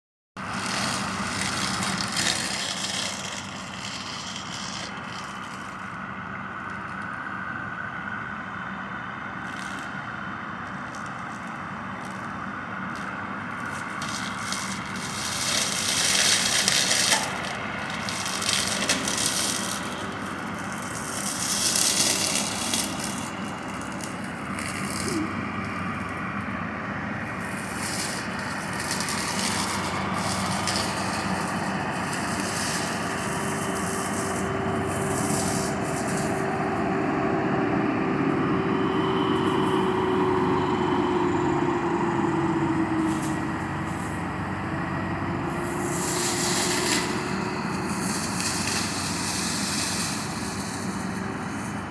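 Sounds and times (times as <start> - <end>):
tractor engine running: 0.4 - 51.9.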